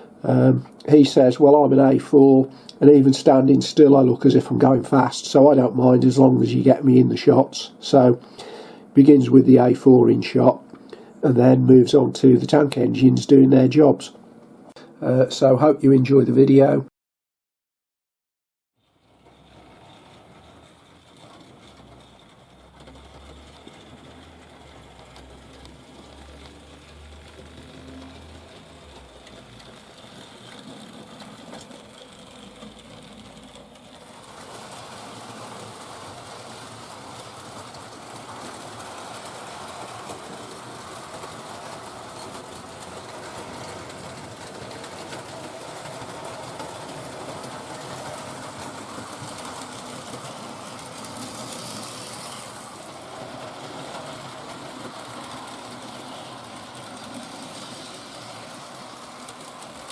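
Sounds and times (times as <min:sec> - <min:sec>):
model train motor and wheels: 0:00.0 - 0:14.2, 0:18.8 - 0:59.9.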